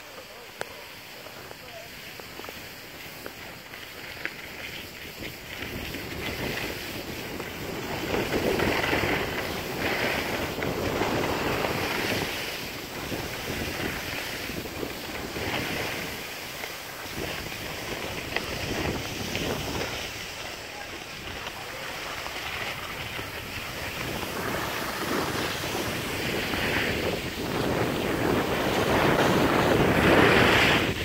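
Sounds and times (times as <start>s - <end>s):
skis scraping over snow: 0.0s - 31.0s
wind on microphone: 4.8s - 31.0s.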